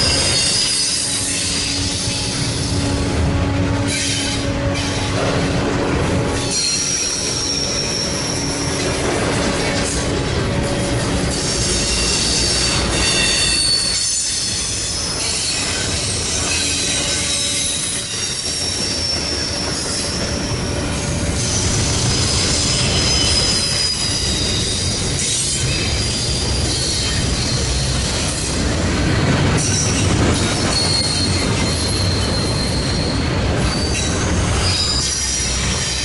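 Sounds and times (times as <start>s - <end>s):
train wheel squeal: 0.0s - 3.2s, 3.8s - 36.0s
freight train rumble: 0.0s - 36.0s.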